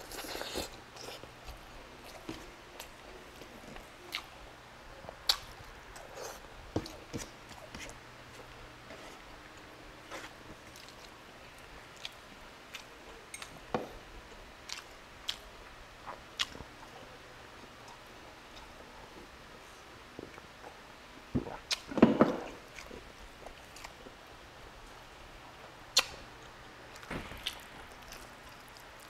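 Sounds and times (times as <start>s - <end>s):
man chewing food: 0.0s - 4.4s, 5.0s - 19.3s, 21.4s - 29.0s.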